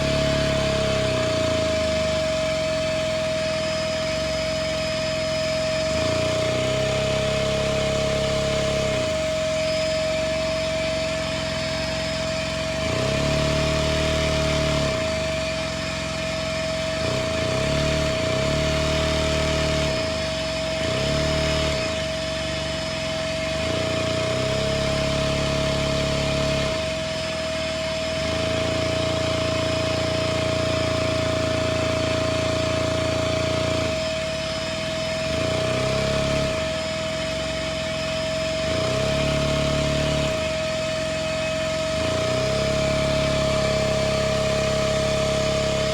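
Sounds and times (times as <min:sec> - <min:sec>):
gear tones shifting pitch: 0:00.0 - 0:45.9
high whine: 0:00.0 - 0:45.9.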